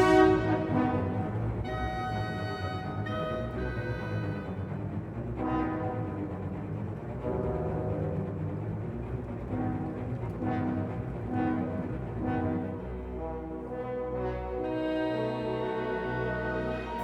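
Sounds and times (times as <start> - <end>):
orchestral music with brass: 0.0 - 17.0.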